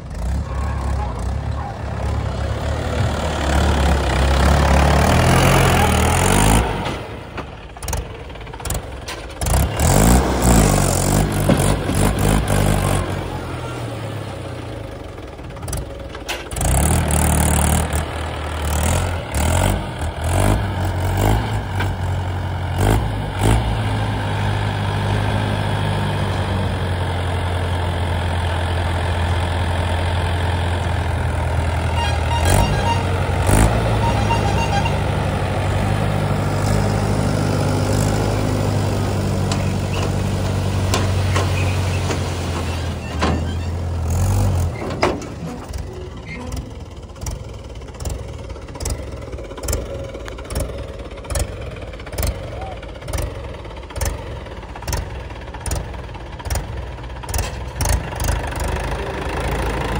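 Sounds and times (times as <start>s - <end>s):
tractor diesel engine revving: 0.0s - 59.9s.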